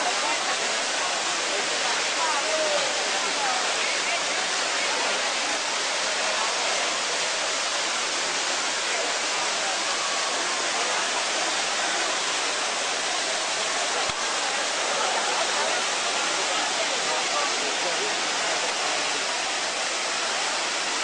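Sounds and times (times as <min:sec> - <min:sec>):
fountain water rushing: 0:00.0 - 0:21.0.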